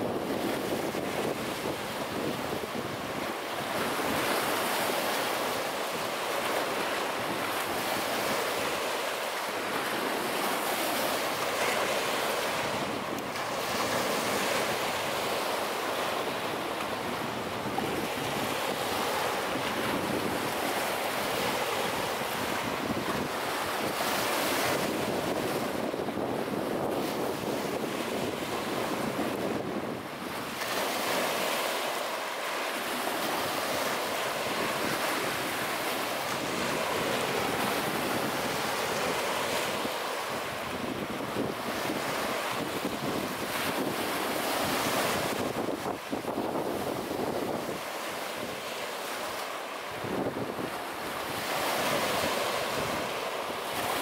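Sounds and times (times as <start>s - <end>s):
small waves washing up beach: 0.0s - 54.0s.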